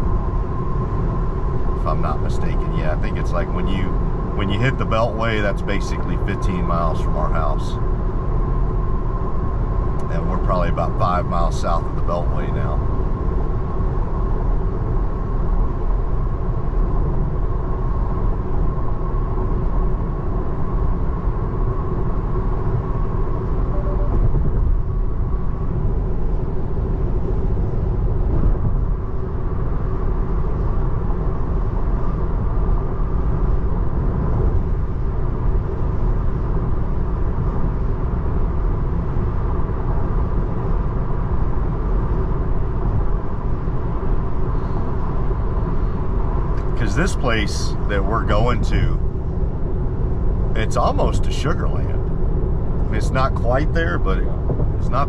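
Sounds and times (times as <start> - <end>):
faint steady hum: 0.0 - 55.0
road and tyre noise in car: 0.0 - 55.0.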